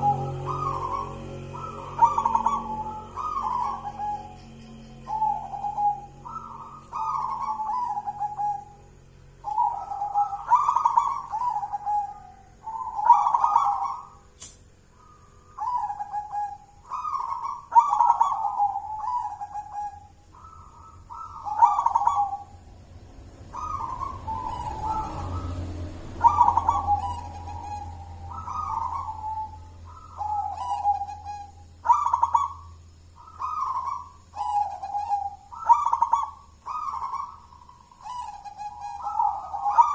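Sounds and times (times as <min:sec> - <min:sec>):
dove cooing: 0:00.0 - 0:14.3, 0:14.9 - 0:39.9.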